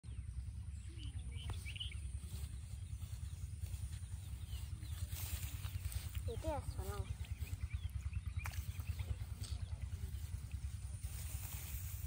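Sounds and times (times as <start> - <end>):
low rumble: 0.0 - 12.0
faint bird chirps: 0.1 - 10.8.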